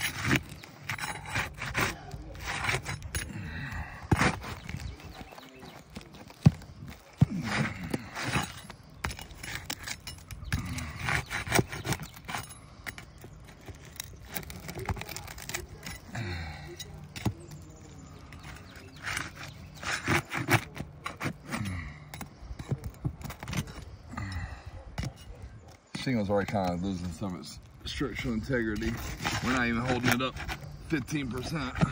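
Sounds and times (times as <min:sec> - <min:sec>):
pry bar scraping shingles: 0:00.0 - 0:31.9.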